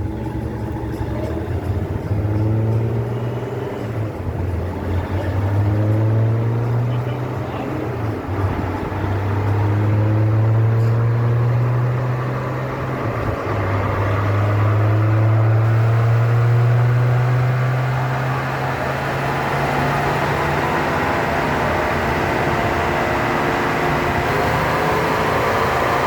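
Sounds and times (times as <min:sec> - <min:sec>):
rising tones: 0:00.0 - 0:26.0
vehicle engine low drone: 0:00.0 - 0:26.0.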